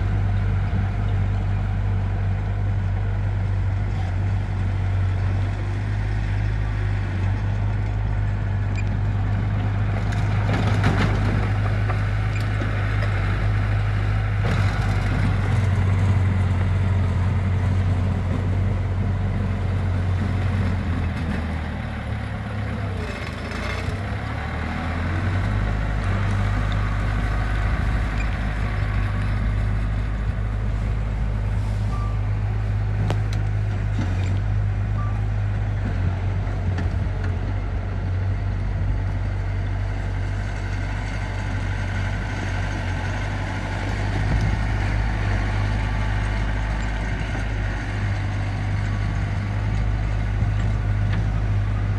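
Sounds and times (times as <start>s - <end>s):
diesel engine of heavy machinery: 0.0s - 51.9s.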